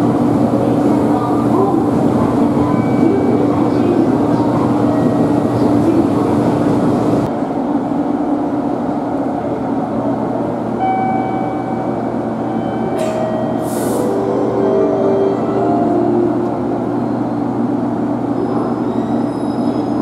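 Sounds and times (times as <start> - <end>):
station noise: 0.0 - 7.3, 10.7 - 20.0
electric train humming: 0.0 - 20.0.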